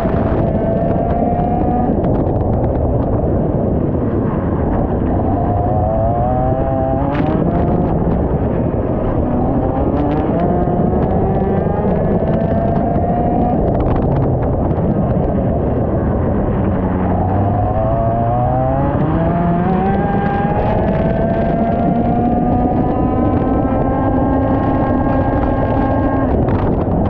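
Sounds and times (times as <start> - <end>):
dense rushing noise: 0.0 - 27.0
kart engine accelerating: 3.8 - 14.2, 15.4 - 27.0.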